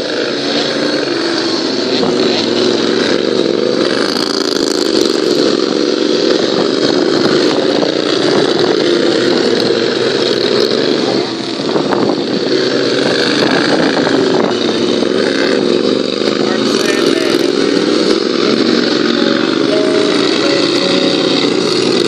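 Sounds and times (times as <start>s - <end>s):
racing lawn mower engines: 0.0s - 22.0s.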